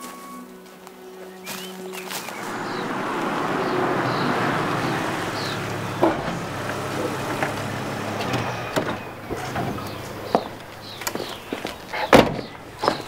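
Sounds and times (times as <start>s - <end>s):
car engine at low speed: 2.3s - 13.0s.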